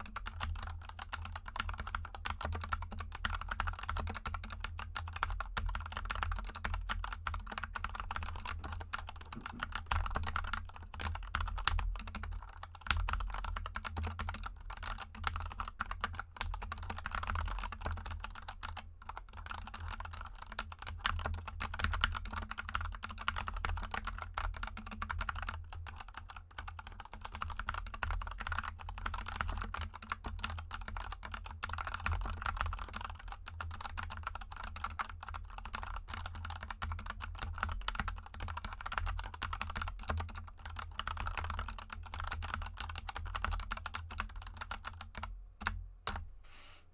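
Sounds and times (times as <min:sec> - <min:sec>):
fast typing on mechanical keyboard: 0:00.0 - 0:46.2.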